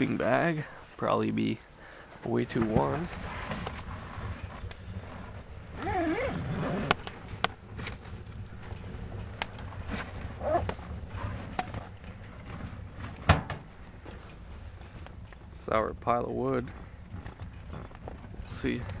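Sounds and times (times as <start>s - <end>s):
wood fire crackling and popping: 2.2s - 19.0s.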